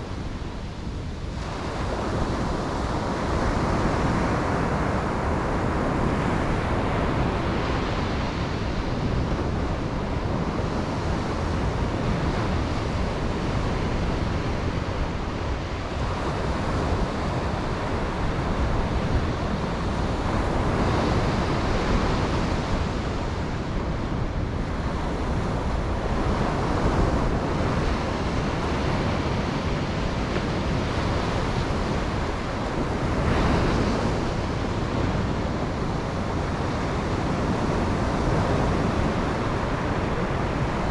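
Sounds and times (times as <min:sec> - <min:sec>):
ocean surf on beach: 0:00.0 - 0:40.9
wind on microphone: 0:00.0 - 0:40.9.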